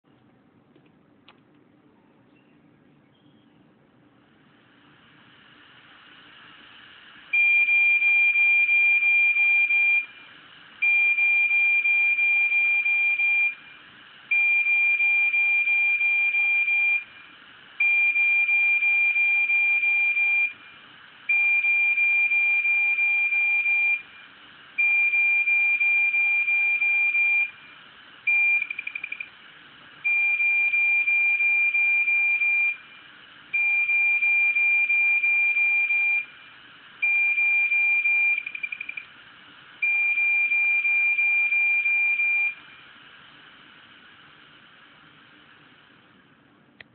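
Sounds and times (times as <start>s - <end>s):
high-pitched tone from hard disk: 4.4s - 46.1s.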